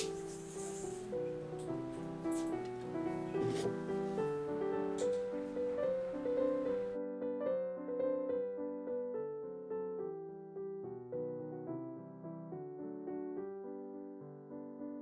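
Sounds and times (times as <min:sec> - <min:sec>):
gentle solo piano music: 0:00.0 - 0:15.0.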